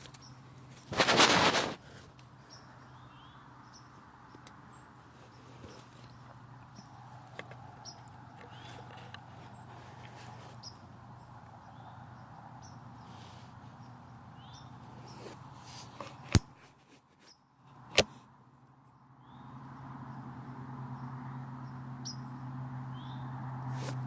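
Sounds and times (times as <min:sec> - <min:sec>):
small birds chirping: 0:00.0 - 0:00.9, 0:01.8 - 0:16.4, 0:18.7 - 0:24.0.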